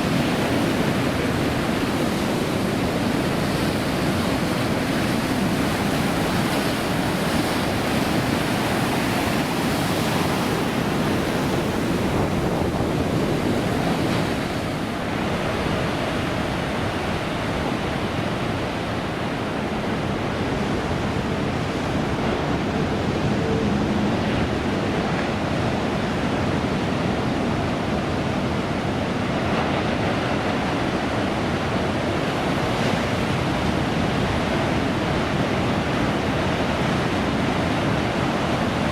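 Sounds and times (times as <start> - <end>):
waves breaking: 0.0 - 38.9
wind on microphone: 0.0 - 38.9.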